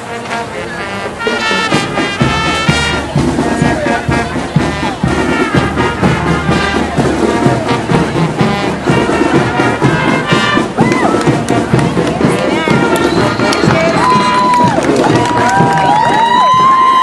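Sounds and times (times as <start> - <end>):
trombones and trumpets: 0.0 - 16.0
marching band playing: 0.0 - 17.0.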